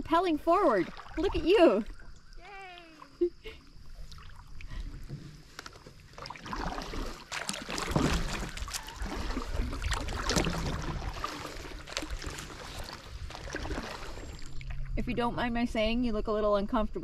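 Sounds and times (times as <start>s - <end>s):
paddle splashing in water: 0.4s - 3.2s, 3.9s - 14.9s.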